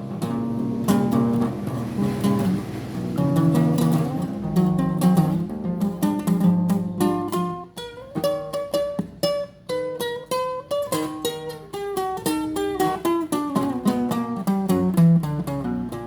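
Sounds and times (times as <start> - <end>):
classical guitar fingerpicking: 0.0 - 16.0.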